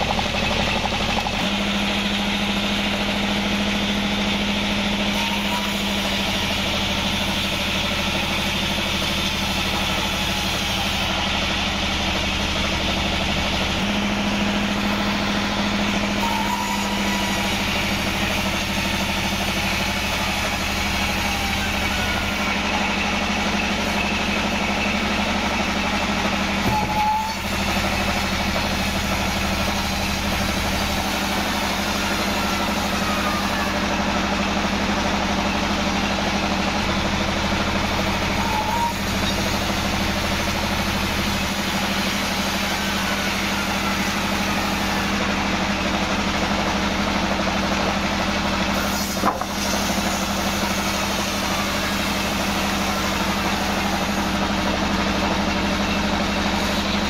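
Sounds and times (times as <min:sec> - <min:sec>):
band saw cutting through log: 0:00.0 - 0:57.0.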